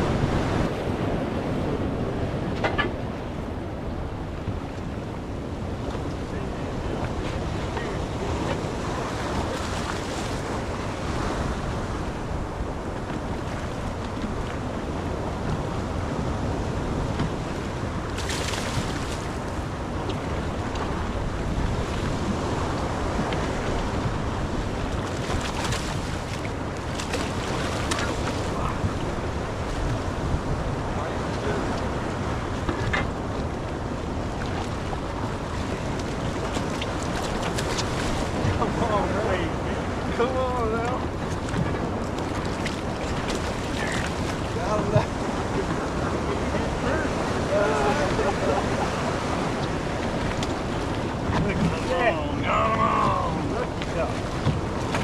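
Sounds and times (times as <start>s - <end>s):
sea waves washing: 0.0s - 55.0s
wind buffeting microphone: 0.0s - 55.0s.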